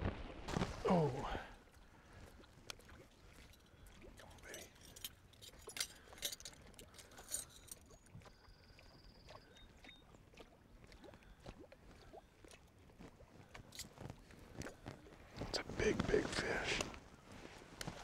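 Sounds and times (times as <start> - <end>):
water lapping against hull: 0.0 - 17.7.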